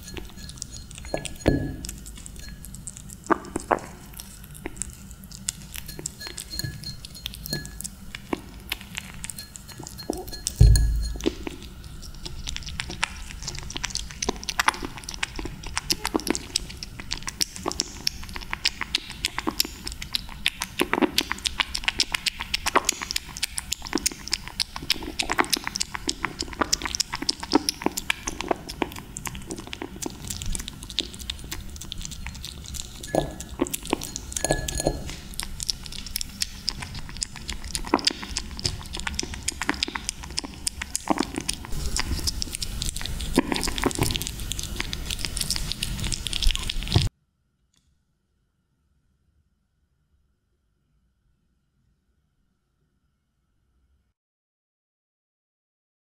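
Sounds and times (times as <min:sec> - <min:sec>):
kitten licking and chewing: 0:00.0 - 0:47.1.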